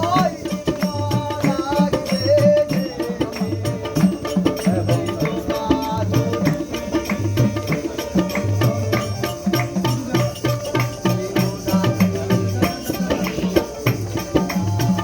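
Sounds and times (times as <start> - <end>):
hand drum rhythm: 0.0 - 15.0.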